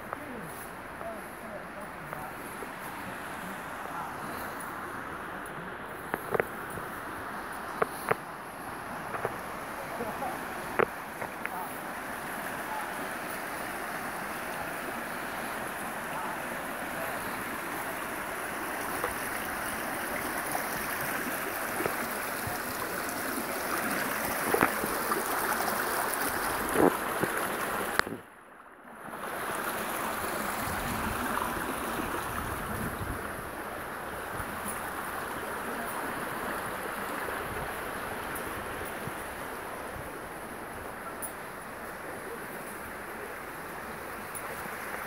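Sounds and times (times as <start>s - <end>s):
rapids rushing over rocks: 0.0s - 28.2s, 28.9s - 45.0s.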